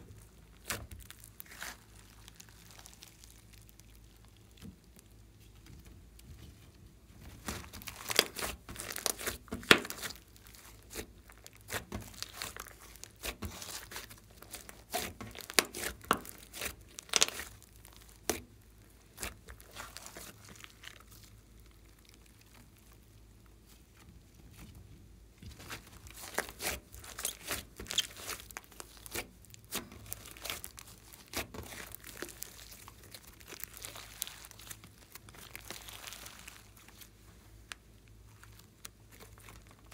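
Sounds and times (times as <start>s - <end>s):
slime crackling and popping: 0.0s - 5.3s, 7.3s - 23.5s, 25.5s - 39.9s.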